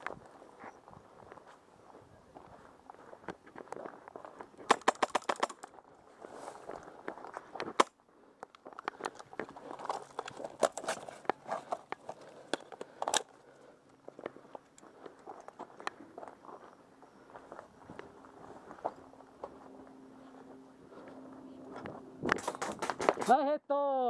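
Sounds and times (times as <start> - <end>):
footsteps on gravel: 0.0 - 23.4.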